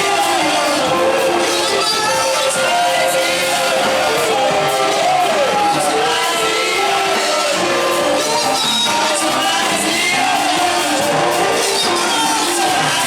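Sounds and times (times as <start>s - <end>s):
congregation singing: 0.0s - 13.0s
live band playing: 0.0s - 13.0s
people shouting: 0.0s - 13.0s.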